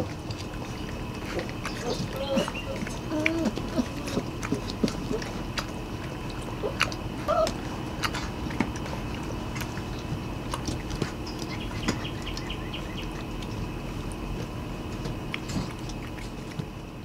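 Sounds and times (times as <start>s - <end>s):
puppies chewing from metal bowl: 0.0s - 17.0s.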